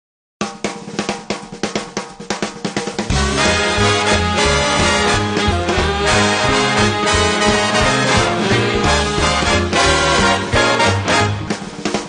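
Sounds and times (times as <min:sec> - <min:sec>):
drum kit pattern: 0:00.4 - 0:12.0.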